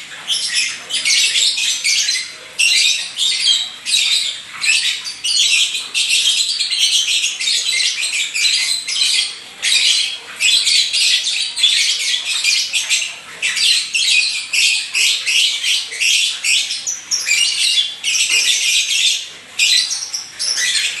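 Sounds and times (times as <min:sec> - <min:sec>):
lovebird chattering and squawking: 0:00.2 - 0:21.0.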